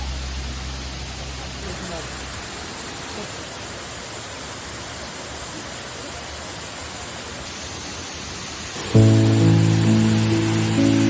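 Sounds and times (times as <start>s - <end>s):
water rushing: 0.0s - 7.2s, 8.8s - 11.0s.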